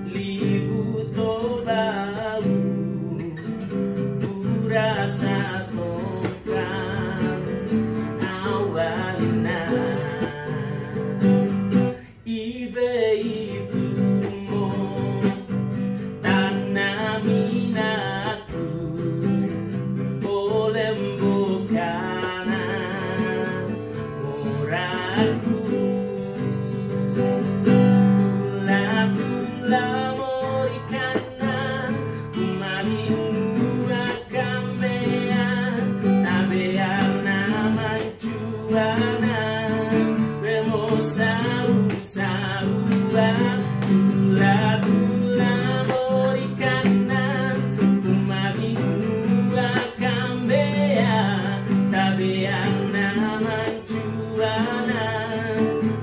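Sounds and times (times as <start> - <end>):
man singing: 0.0 - 56.0
strummed acoustic guitar: 0.0 - 56.0.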